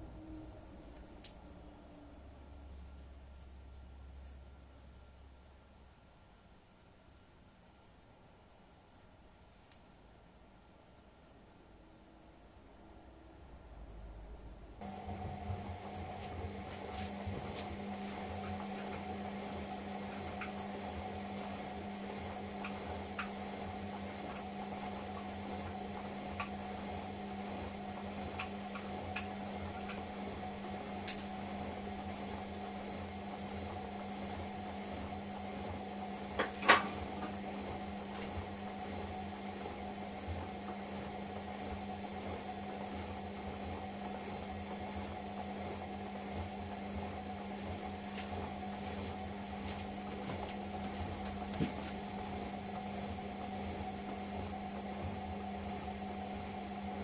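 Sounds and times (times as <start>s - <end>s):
washing machine motor hum: 0.0s - 6.9s, 10.2s - 57.0s.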